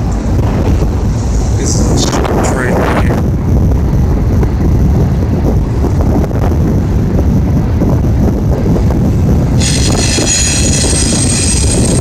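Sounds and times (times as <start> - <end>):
train rolling past: 0.0 - 12.0
wind buffeting microphone: 0.0 - 12.0.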